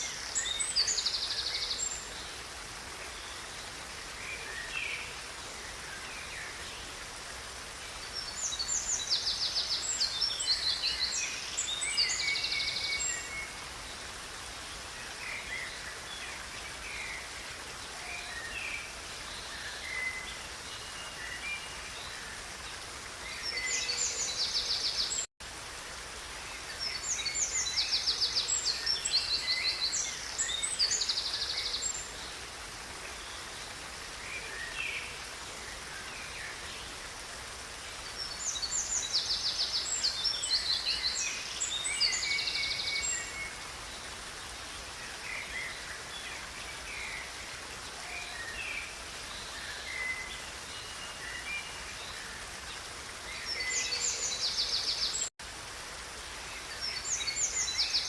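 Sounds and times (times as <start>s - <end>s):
songbirds singing: 0.0s - 25.3s, 26.2s - 58.0s
flowing river water: 0.0s - 58.0s.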